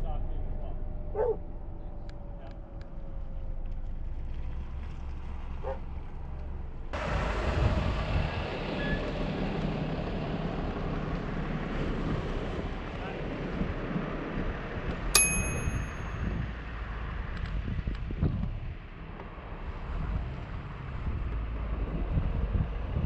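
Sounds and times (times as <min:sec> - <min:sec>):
car engine and tyre hum: 0:00.0 - 0:23.0
road and wind noise: 0:00.0 - 0:23.0.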